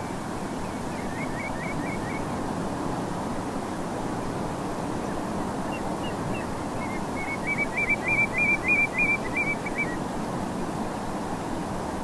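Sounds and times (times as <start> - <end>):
distant surf hiss: 0.0 - 12.0.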